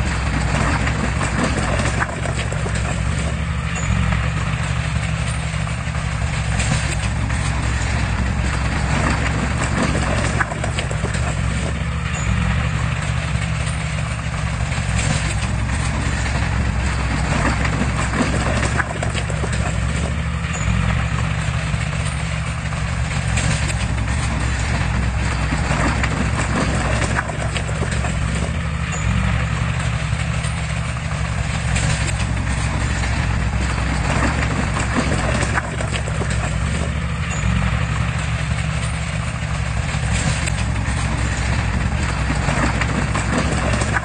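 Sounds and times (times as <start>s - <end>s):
diesel engine running: 0.0s - 44.0s
metal clanks and clicks: 0.1s - 44.0s.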